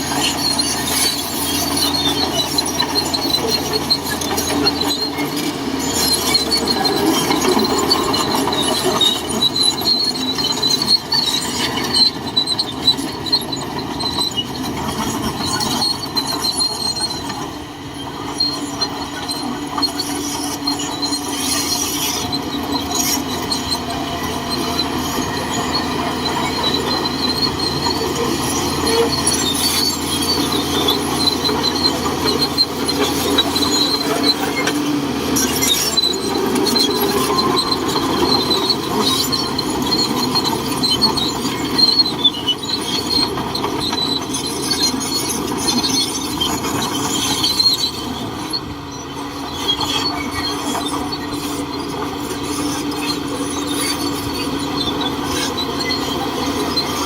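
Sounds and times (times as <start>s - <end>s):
bulldozer engine running: 0.0s - 57.0s
grinding noise: 0.0s - 57.0s
metallic squeal of tracks: 0.0s - 57.0s.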